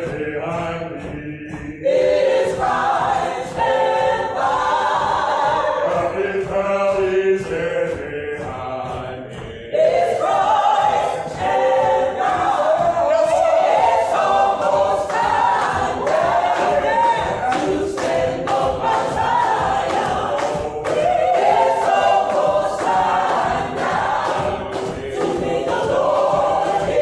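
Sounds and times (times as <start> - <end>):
gospel choir singing a cappella: 0.0 - 27.0.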